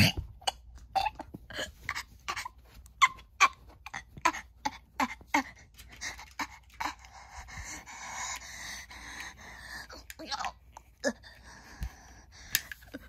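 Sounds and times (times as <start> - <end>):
person gasping and sobbing: 0.0 - 13.0.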